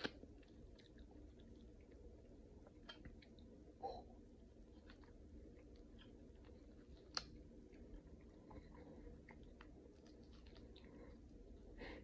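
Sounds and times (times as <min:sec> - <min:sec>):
small wet clicks: 0:00.0 - 0:03.5, 0:04.7 - 0:11.3
person chewing: 0:00.0 - 0:11.8.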